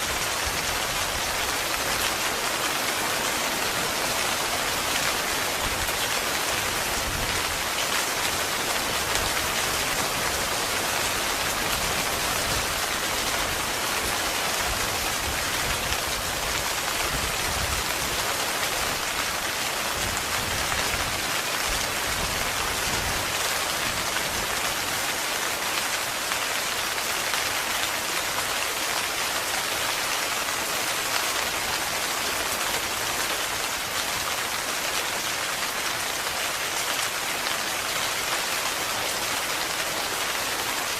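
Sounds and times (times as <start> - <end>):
heavy rain drumming on a tent: 0.0 - 40.9.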